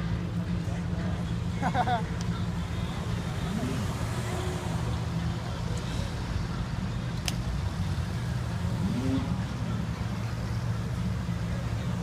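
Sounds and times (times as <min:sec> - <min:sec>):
car engine rumbling at low revs: 0:00.0 - 0:12.0.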